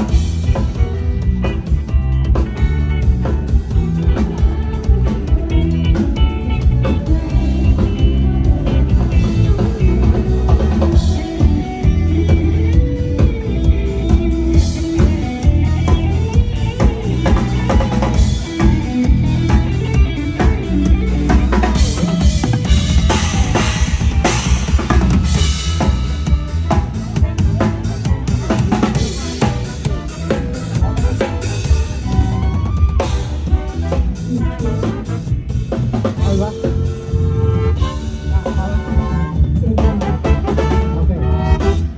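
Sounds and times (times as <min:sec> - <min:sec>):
loud music with heavy bass: 0:00.0 - 0:41.9.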